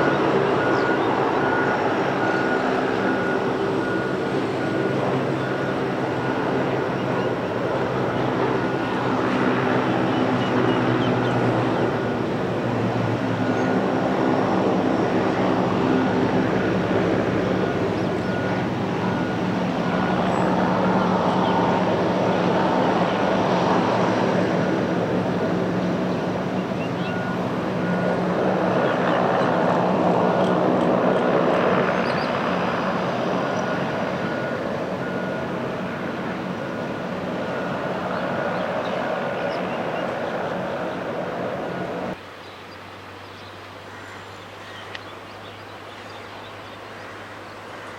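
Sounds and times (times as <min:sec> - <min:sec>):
aircraft engines droning: 0:00.0 - 0:47.9.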